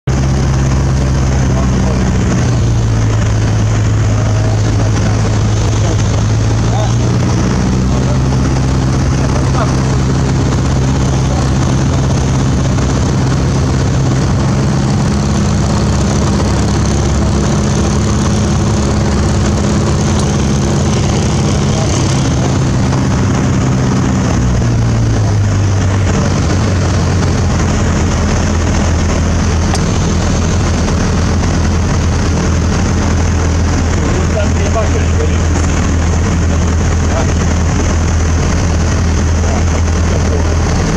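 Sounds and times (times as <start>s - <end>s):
aircraft engine and propeller: 0.0s - 40.9s
wind noise: 0.1s - 40.9s.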